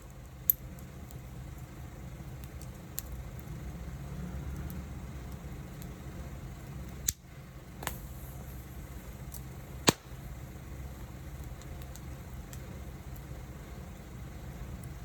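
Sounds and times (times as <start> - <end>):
fire crackling pops: 0.0 - 15.0
low rush of wood fire: 0.0 - 15.0.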